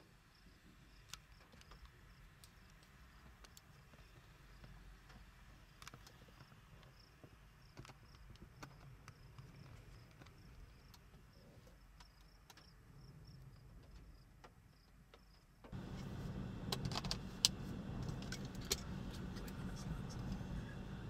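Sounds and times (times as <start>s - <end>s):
faint low wind rumble: 0.0s - 21.0s.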